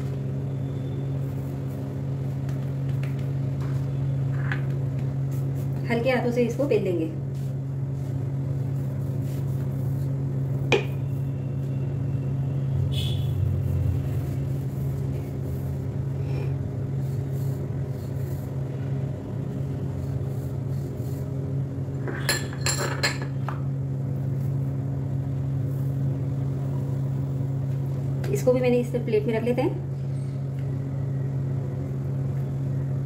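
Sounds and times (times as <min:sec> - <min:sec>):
mechanical hum: 0:00.0 - 0:33.0.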